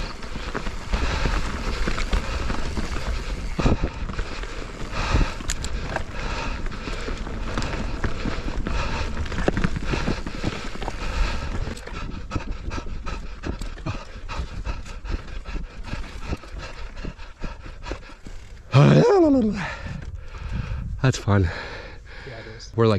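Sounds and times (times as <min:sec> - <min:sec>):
person panting hard: 0:00.0 - 0:18.7, 0:19.4 - 0:22.7
bike rattling on dirt trail: 0:00.0 - 0:20.8.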